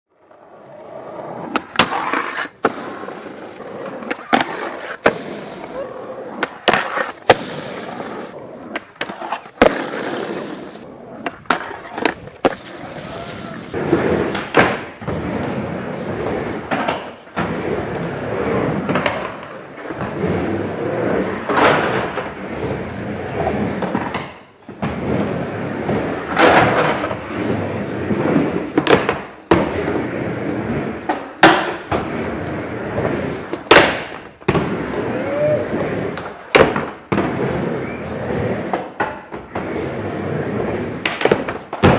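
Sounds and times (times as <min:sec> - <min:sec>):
skateboard wheels rolling: 0:00.1 - 0:41.9.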